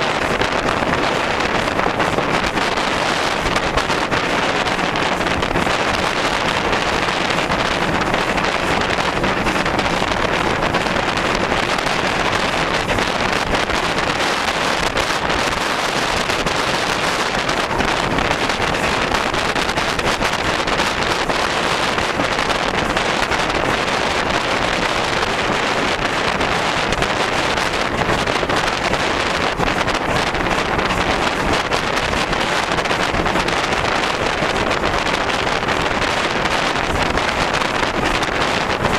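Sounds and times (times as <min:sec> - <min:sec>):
train running noise: 0:00.0 - 0:38.9
wind buffeting microphone: 0:00.0 - 0:38.9.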